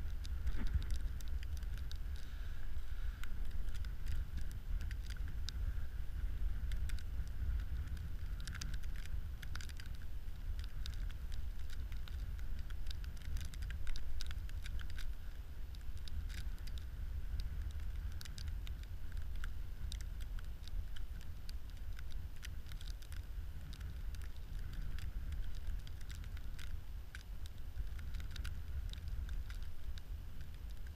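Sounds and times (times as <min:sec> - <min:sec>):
wind rumbling on microphone: 0:00.0 - 0:30.9.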